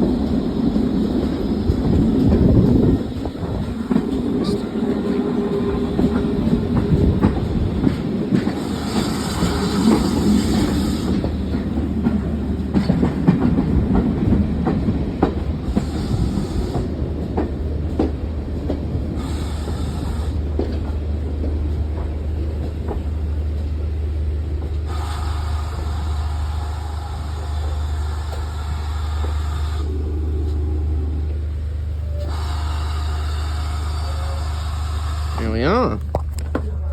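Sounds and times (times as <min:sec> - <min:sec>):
train wheels clicking over rail joints: 0:00.0 - 0:30.7
low train rumble: 0:00.0 - 0:36.9.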